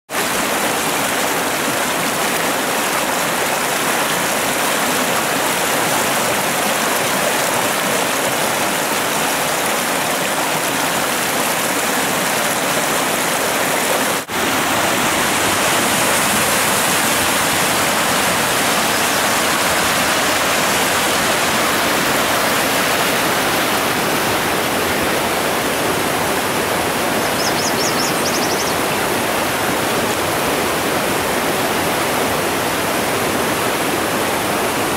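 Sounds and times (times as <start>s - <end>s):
whitewater rushing over rocks: 0.1s - 34.9s.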